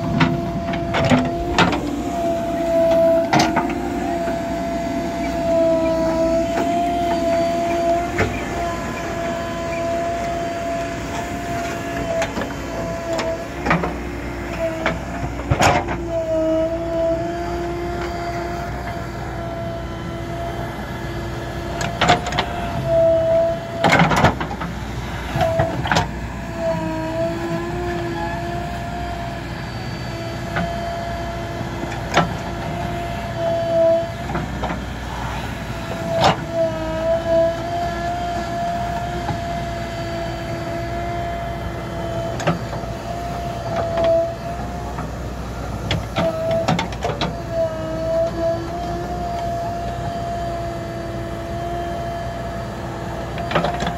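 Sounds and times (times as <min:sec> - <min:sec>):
diesel engine and hydraulic whine: 0:00.0 - 0:53.9.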